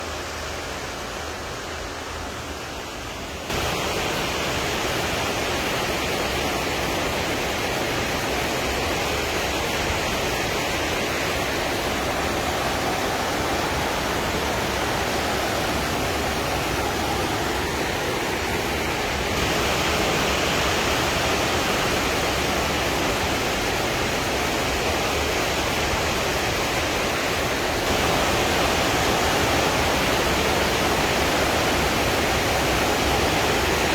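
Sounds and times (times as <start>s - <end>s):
waterfall rushing and splashing: 0.0s - 33.9s.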